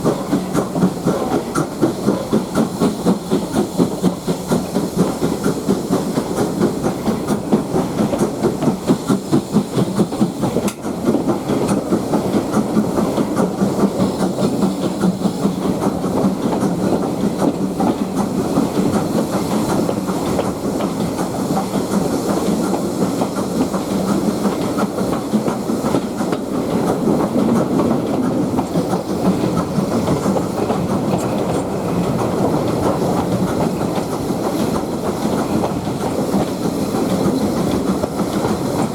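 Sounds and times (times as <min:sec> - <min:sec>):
steam hiss: 0:00.0 - 0:38.9
train rumble: 0:00.0 - 0:38.9
train wheels clicking over rail joints: 0:00.0 - 0:38.9.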